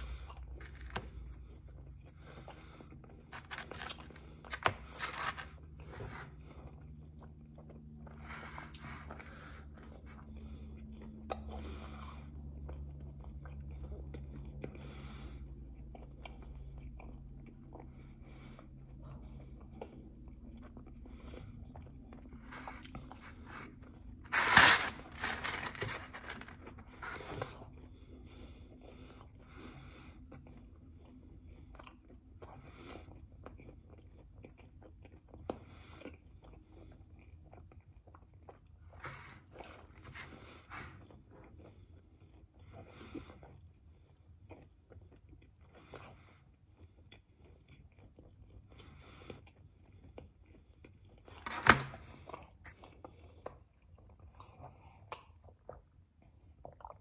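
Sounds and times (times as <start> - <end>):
chewing and biting pizza: 0.0 - 57.0.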